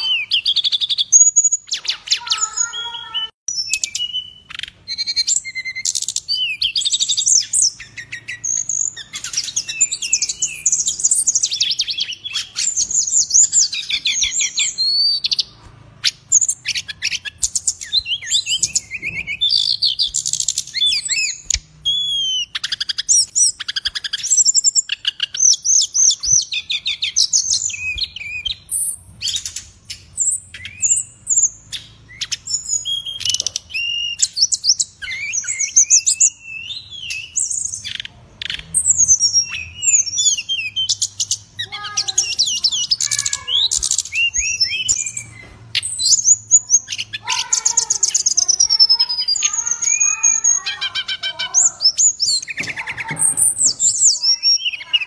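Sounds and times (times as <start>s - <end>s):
bird trills and whistles: 0.0s - 55.0s.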